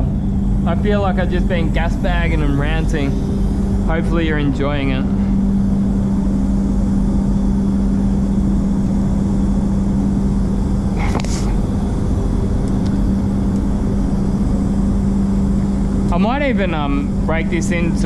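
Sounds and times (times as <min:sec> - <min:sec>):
ventilation fans humming: 0:00.0 - 0:18.0.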